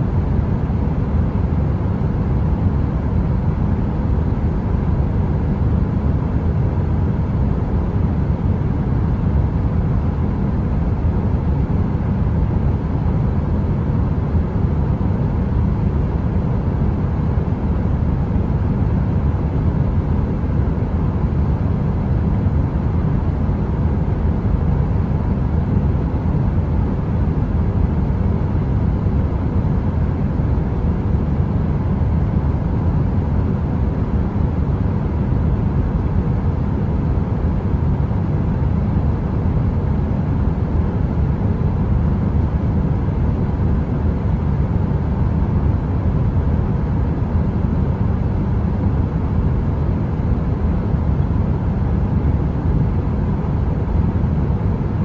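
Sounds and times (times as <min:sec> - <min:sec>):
deep brown noise drone: 0:00.0 - 0:55.0.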